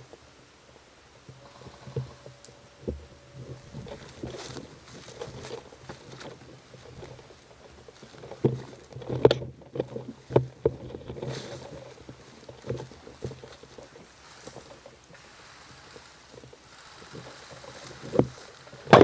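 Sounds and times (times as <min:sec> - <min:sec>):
rustling: 0:00.0 - 0:19.0.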